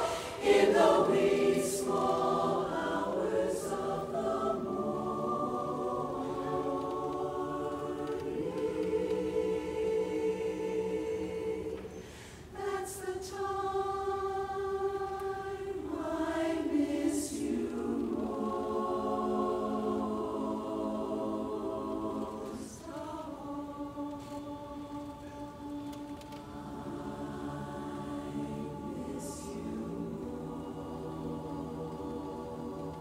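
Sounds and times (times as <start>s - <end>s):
women's choir singing in harmony: 0.0s - 33.0s.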